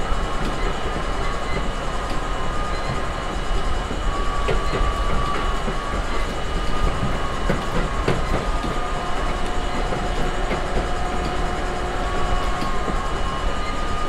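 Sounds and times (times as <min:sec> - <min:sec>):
subway wheels rumbling on rail: 0:00.0 - 0:14.0.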